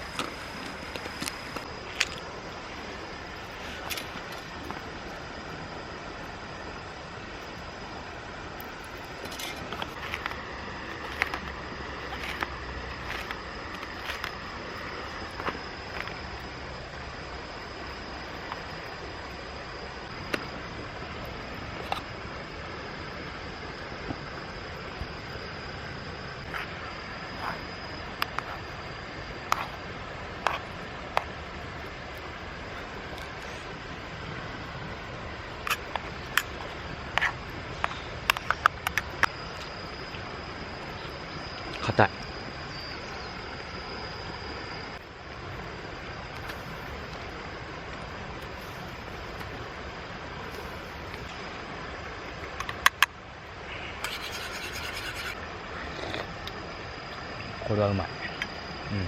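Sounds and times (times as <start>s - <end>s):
mountain stream rushing: 0.0s - 57.8s
high insect-like tone: 0.0s - 59.0s.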